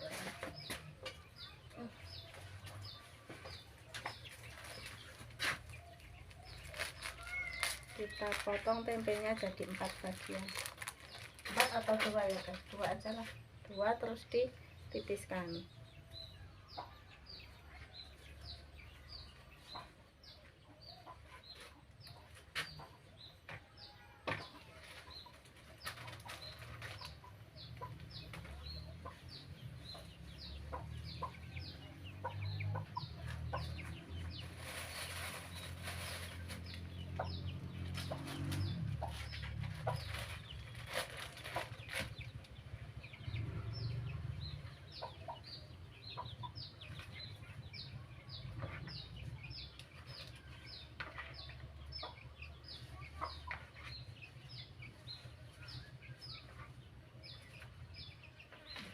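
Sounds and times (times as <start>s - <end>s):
chickens peeping: 0.0s - 58.9s.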